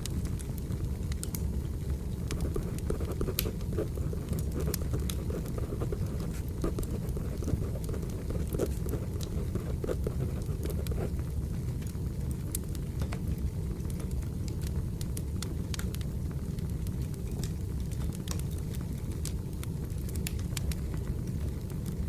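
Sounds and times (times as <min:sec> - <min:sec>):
firewood crackling and popping: 0:00.0 - 0:22.0
low rumble of fire: 0:00.0 - 0:22.0.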